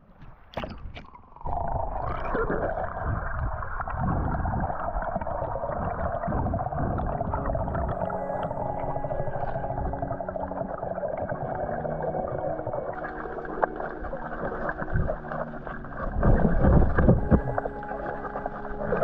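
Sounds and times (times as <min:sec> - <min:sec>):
underwater rush of water and bubbles: 0:00.5 - 0:19.0.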